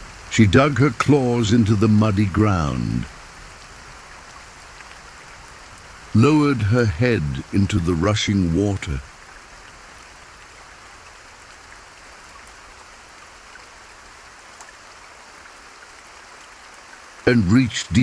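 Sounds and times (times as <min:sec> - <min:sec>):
rain hissing: 0:00.0 - 0:18.0
rushing water: 0:00.0 - 0:18.0.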